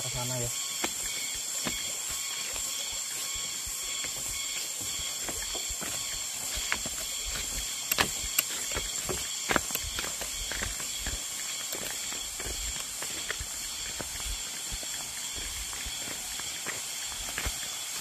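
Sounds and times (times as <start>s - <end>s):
insects buzzing: 0.0s - 18.0s
footsteps on dirt path: 0.1s - 18.0s.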